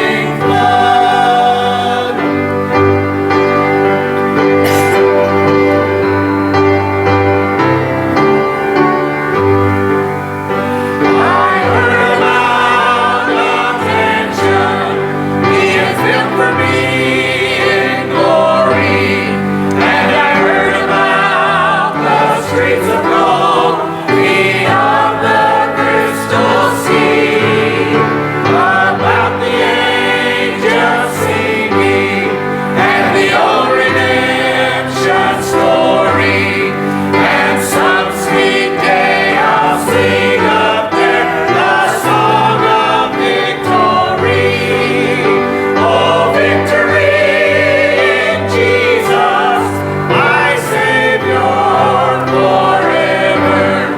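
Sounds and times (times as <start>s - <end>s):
choir singing gospel song: 0.0s - 53.9s
instrumental accompaniment: 0.0s - 53.9s.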